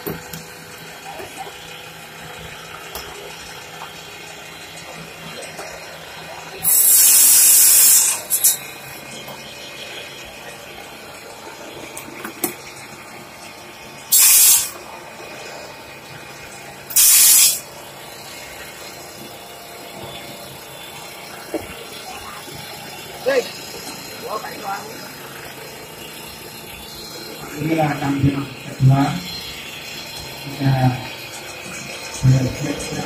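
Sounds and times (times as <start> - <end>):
cutting machine hissing: 0.0 - 12.8, 14.0 - 33.0.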